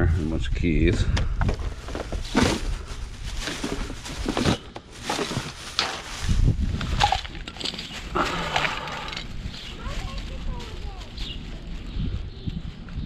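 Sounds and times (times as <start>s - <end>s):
rustling and clattering of objects: 0.8s - 13.0s.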